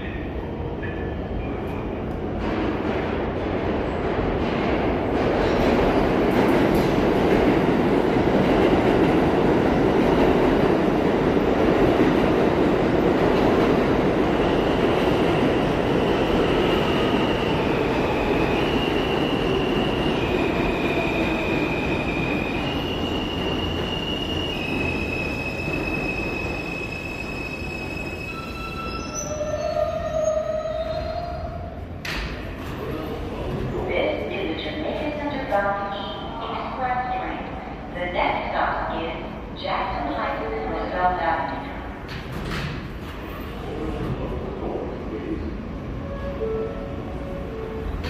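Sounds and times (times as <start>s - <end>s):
subway train wheels rumbling on rails: 0.0s - 48.0s.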